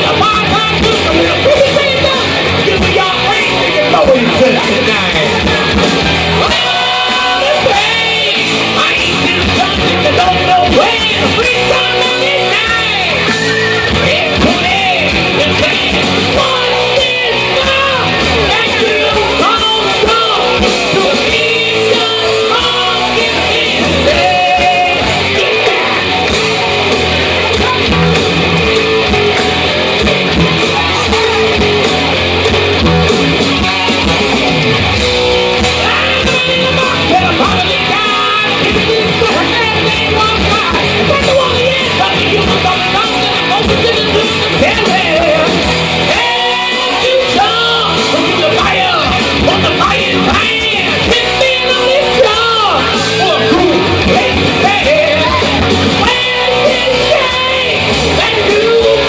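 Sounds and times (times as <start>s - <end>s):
man singing into a microphone: 0.0s - 25.5s, 35.6s - 59.0s
rock backing track with electric guitar: 0.0s - 59.0s.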